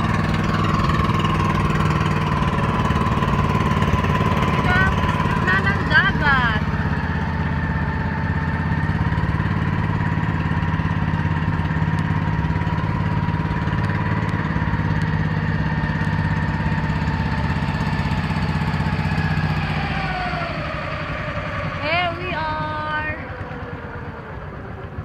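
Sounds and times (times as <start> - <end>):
boat engine running: 0.0 - 25.0
constant whine: 0.0 - 25.0.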